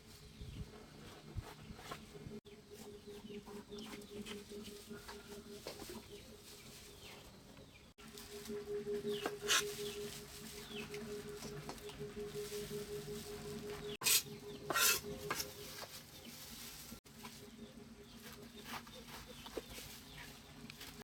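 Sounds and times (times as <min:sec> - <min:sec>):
chicks peeping: 0:00.4 - 0:21.0
steady low hum: 0:02.2 - 0:19.0
chickens clucking: 0:02.6 - 0:21.0.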